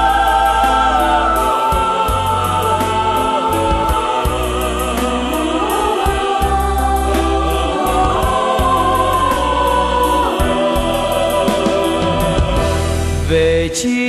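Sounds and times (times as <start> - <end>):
steady light beat: 0.0 - 12.8
sustained low bass: 0.0 - 13.7.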